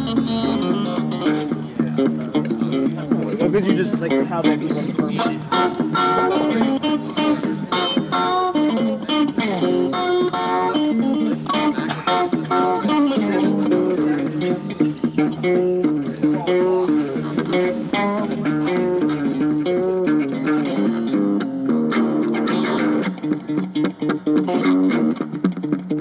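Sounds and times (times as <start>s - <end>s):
bass line: 0.0s - 25.6s
plucked guitar: 0.0s - 26.0s.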